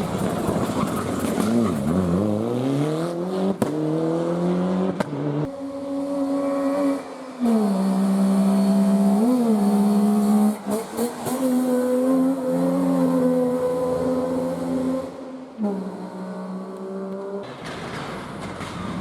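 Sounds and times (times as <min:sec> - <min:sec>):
rally car engine at high revs: 0:00.0 - 0:17.5.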